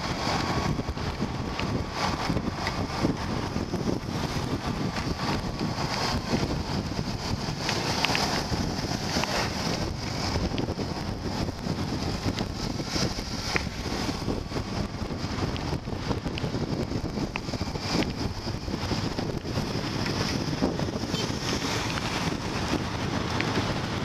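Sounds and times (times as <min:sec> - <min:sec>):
motorbike riding on wet road: 0:00.0 - 0:24.0
wind buffeting microphone: 0:00.0 - 0:24.0.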